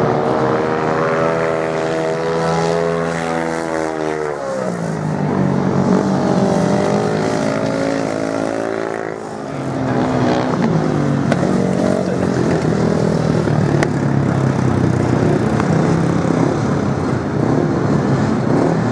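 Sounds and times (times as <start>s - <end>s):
racing motorcycle engines: 0.0s - 18.9s.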